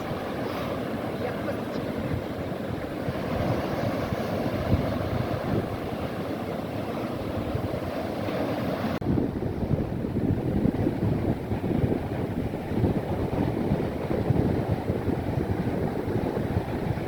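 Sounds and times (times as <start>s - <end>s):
sea waves: 0.0s - 17.0s
wind buffeting microphone: 0.0s - 17.0s.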